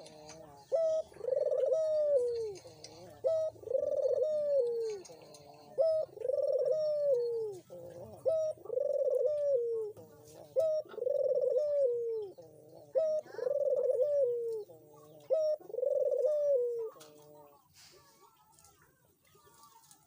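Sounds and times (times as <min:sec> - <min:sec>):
dove cooing: 0:00.0 - 0:18.7.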